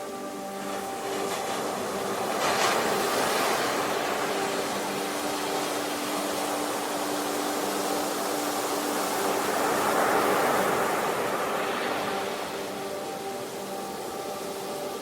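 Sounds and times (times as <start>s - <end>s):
sea waves washing in: 0.0s - 15.0s.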